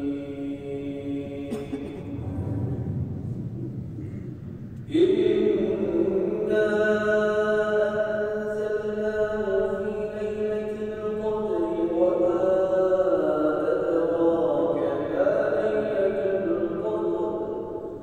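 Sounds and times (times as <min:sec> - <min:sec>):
person chanting recitation: 0:00.0 - 0:03.2, 0:04.8 - 0:18.0
steady low hum: 0:00.0 - 0:14.4.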